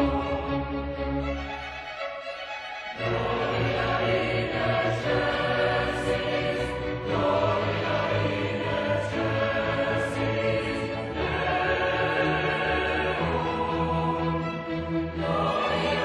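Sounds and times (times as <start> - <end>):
choir singing: 0.0 - 16.0
string orchestra: 0.0 - 16.0.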